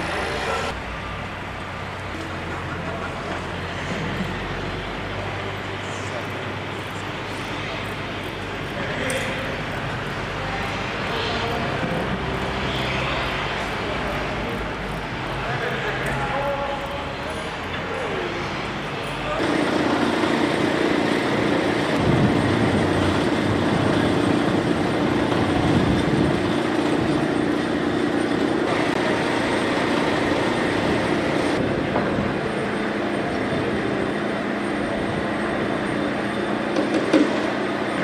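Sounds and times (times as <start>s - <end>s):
mechanical running noise: 0.0s - 38.0s.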